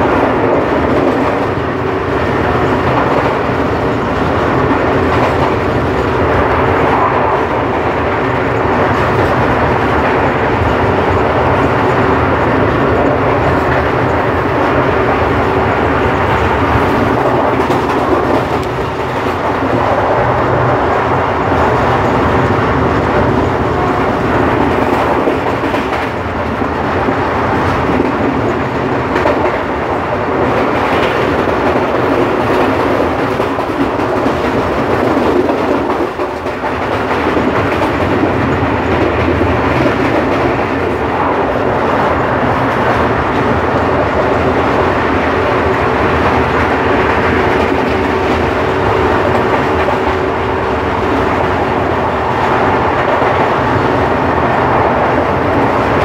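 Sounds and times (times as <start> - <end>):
train wheels on track: 0.0 - 56.0.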